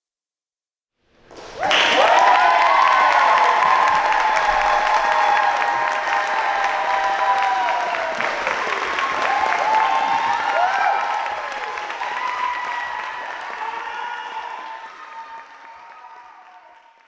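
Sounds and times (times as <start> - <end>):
audience applauding: 1.3 - 17.0.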